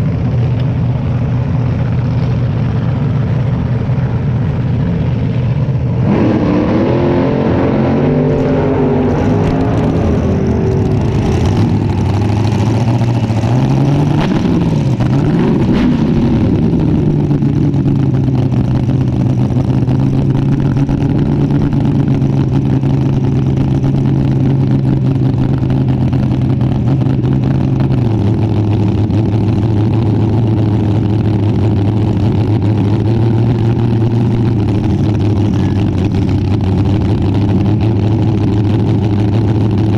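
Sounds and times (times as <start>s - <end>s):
dragster engine idling: 0.0s - 6.1s, 8.3s - 39.9s.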